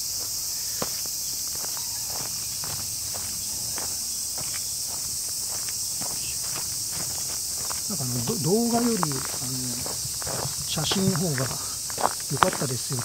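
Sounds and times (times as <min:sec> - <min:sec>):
cicadas chorus: 0:00.0 - 0:13.0
footsteps on dirt path: 0:00.0 - 0:13.0.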